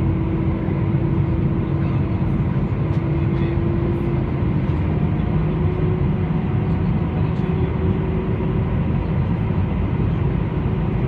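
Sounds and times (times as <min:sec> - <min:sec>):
airliner engine rumble: 0:00.0 - 0:11.0
constant hum: 0:00.0 - 0:11.0.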